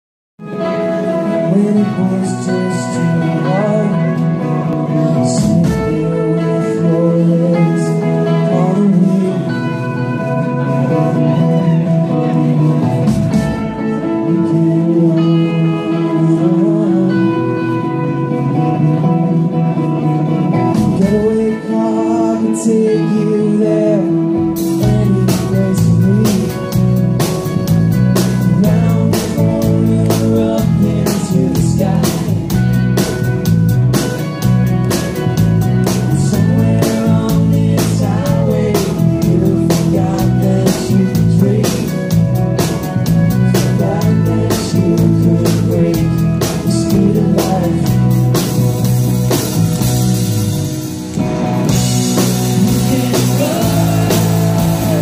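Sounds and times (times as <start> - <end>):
rock band playing live: 0.4 - 55.0.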